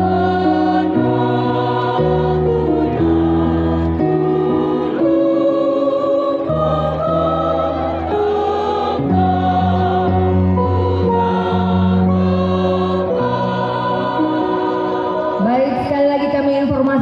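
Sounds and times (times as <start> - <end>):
mixed choir singing: 0.0 - 16.4.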